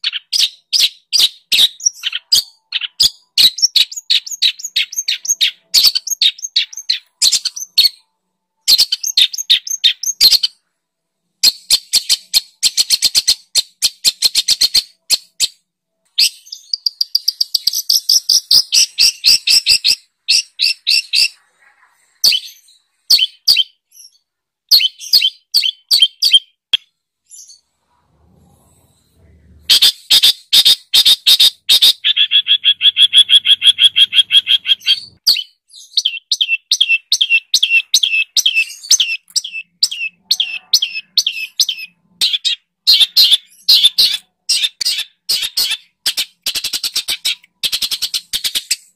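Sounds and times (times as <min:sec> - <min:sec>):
songbird chirps and trills: 0:00.0 - 0:10.8, 0:11.4 - 0:48.9.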